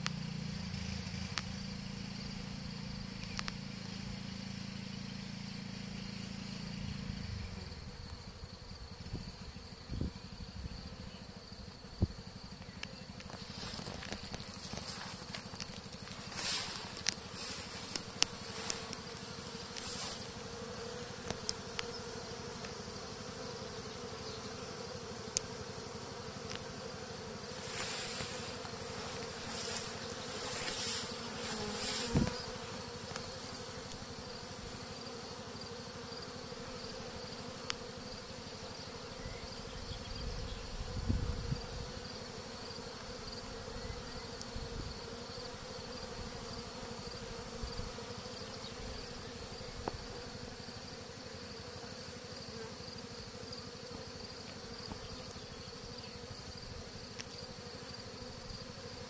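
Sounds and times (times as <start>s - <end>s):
bee swarm buzzing: 5.8s - 59.0s.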